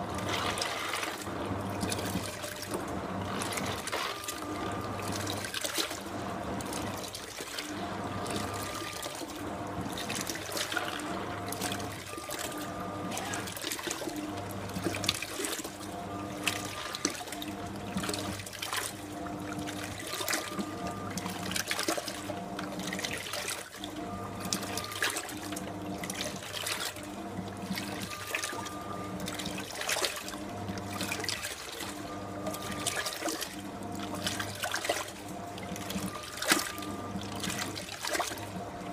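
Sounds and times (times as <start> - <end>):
washing machine motor humming: 0.0 - 38.9
water sloshing in tub: 0.0 - 38.9.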